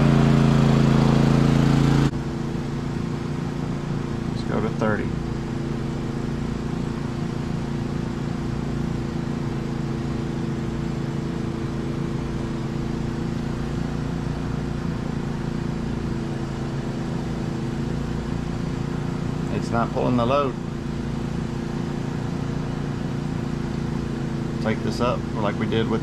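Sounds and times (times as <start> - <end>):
generator running under load: 0.0 - 26.0.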